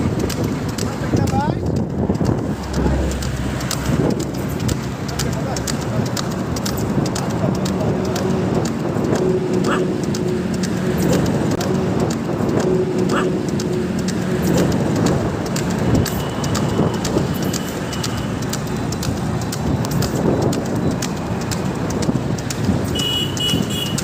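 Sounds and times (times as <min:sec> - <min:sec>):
low engine hum: 0:00.0 - 0:24.0
small crackling clicks: 0:00.0 - 0:24.0
wheels rolling on asphalt: 0:00.0 - 0:24.0
wind buffeting microphone: 0:00.0 - 0:24.0.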